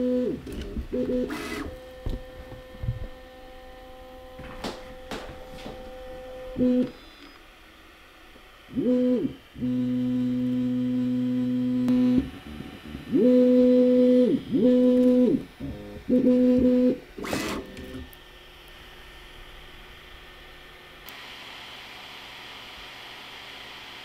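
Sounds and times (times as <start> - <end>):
stepper motor tones: 0.0 - 22.4.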